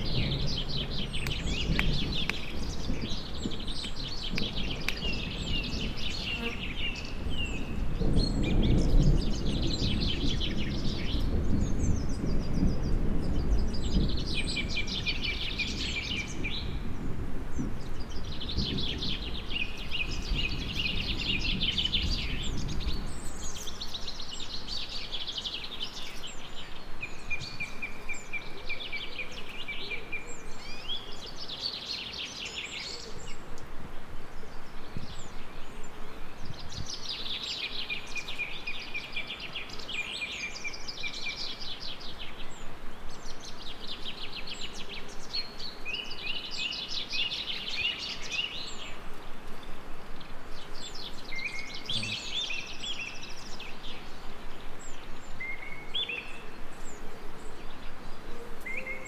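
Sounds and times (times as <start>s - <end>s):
songbirds trilling: 0.0s - 59.0s.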